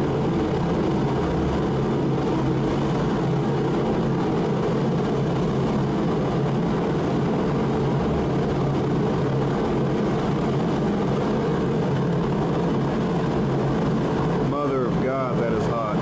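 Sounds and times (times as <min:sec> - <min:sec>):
heater fan and burner roar: 0:00.0 - 0:16.0.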